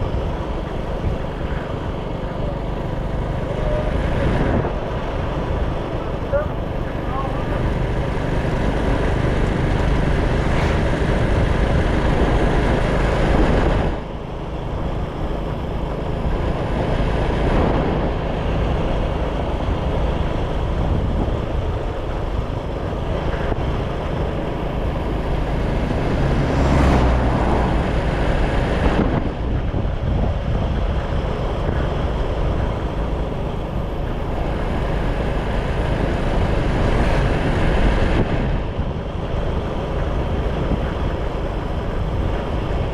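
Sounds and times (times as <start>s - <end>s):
motorcycle engine running: 0.0s - 42.9s
wind buffeting microphone: 0.0s - 42.9s.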